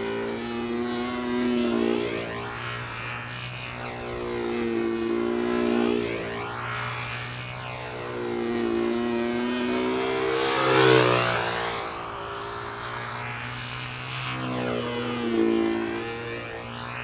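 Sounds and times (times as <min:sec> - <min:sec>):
model plane engine passing: 0:00.0 - 0:17.0.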